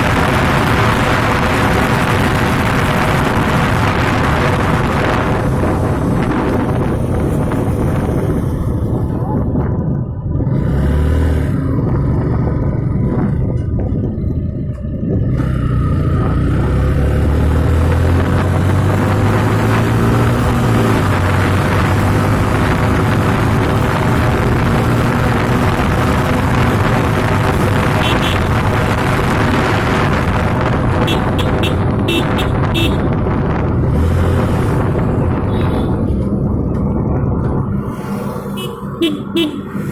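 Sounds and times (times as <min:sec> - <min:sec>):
rush of noise: 0:00.0 - 0:13.6, 0:15.5 - 0:39.9
motorcycle engine accelerating: 0:00.0 - 0:39.9.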